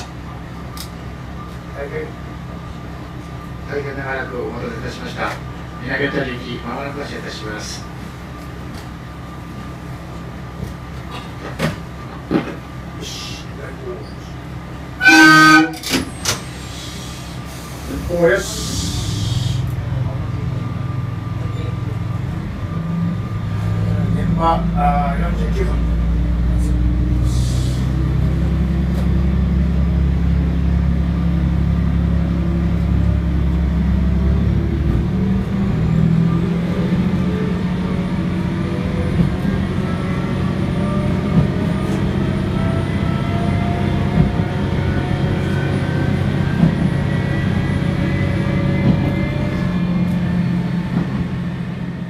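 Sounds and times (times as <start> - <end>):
diesel railcar engine drone: 0.0 - 52.0
rising whine of railcar: 0.0 - 52.0.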